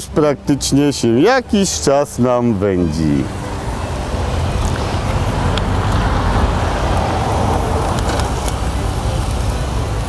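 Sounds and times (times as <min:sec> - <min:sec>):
low rumbling outdoor noise: 0:00.0 - 0:10.0.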